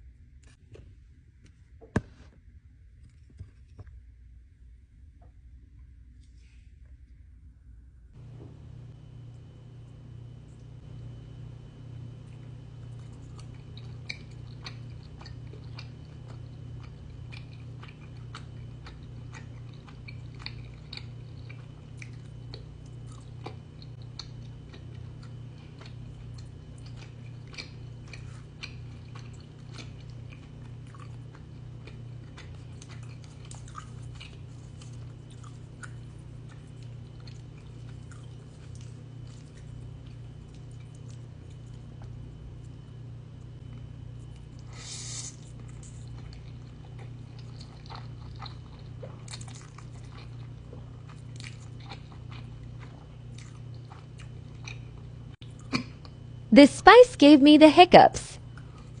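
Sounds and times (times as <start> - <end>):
steady low hum: 0.0 - 59.0
person chewing noodles: 8.2 - 42.9, 43.5 - 56.2.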